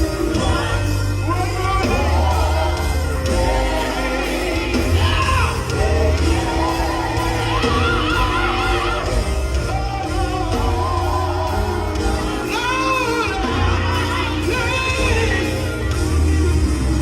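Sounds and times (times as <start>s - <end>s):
bass guitar: 0.0s - 17.0s.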